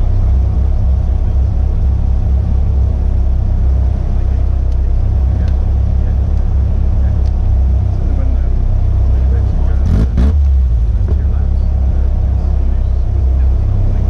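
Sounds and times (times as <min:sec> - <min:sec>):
race car engine idling: 0:00.0 - 0:14.0.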